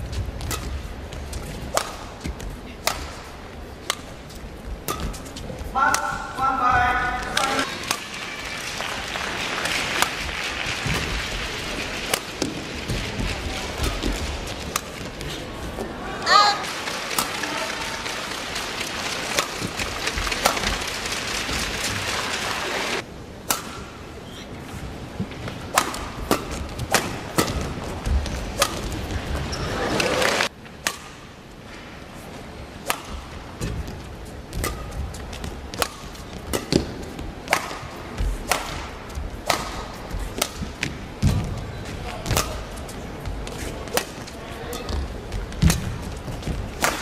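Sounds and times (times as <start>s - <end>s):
rackets striking shuttlecock: 0.4s - 8.8s, 9.6s - 15.2s, 16.7s - 22.3s, 23.4s - 24.1s, 25.2s - 29.7s, 30.8s - 31.4s, 32.8s - 47.0s
loud arena noise: 4.8s - 24.2s, 24.8s - 47.0s.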